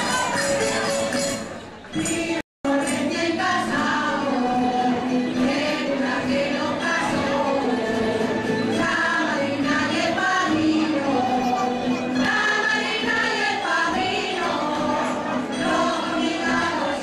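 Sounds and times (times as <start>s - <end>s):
guitar accompaniment: 0.0s - 17.0s
group of voices singing: 1.9s - 17.0s.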